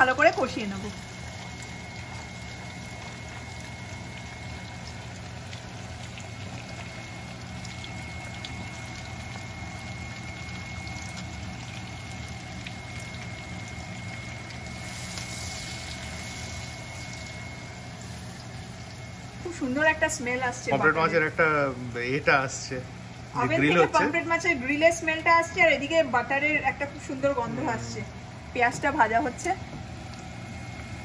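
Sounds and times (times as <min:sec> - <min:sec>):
onion sizzling in oil: 0:00.0 - 0:31.0
steady hum: 0:00.0 - 0:31.0.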